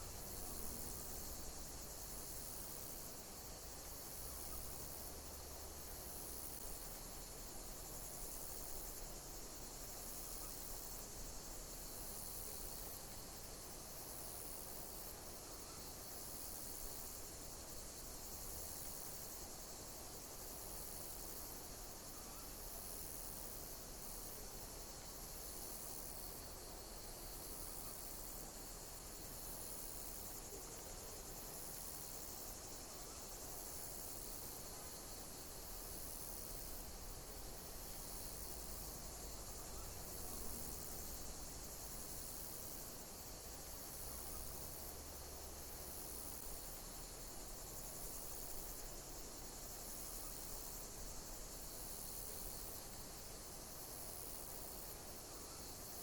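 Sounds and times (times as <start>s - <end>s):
higher pulsing insect call: 0.0s - 56.0s
insects chirping chorus: 0.0s - 56.0s.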